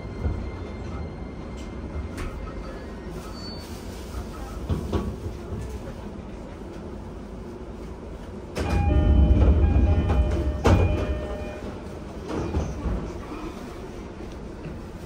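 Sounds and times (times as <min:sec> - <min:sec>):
low hum inside train car: 0:00.0 - 0:15.0.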